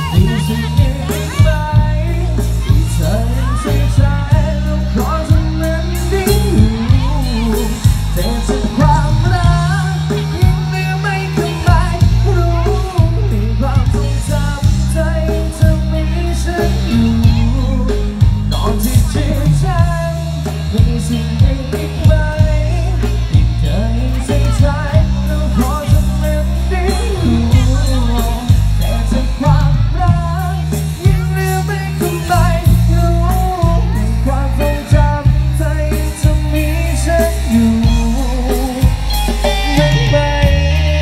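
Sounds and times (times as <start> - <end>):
song over loud outdoor pa: 0.0 - 41.0.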